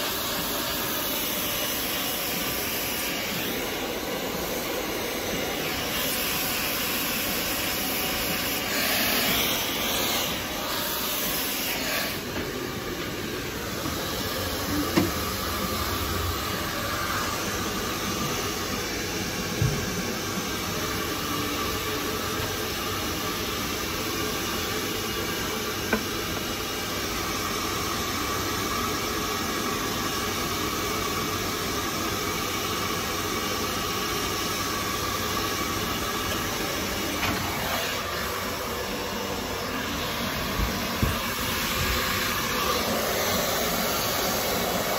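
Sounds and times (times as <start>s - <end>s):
hair dryer blowing: 0.0s - 44.9s.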